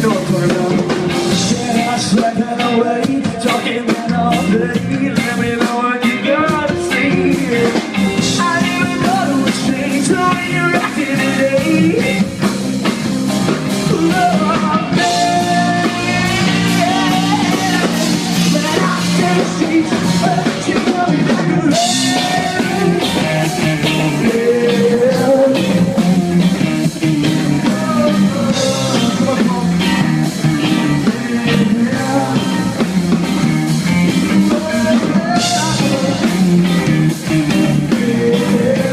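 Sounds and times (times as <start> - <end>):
person singing: 0.0 - 12.5, 13.7 - 38.9
drums: 0.0 - 38.9
electric guitar: 0.0 - 38.9.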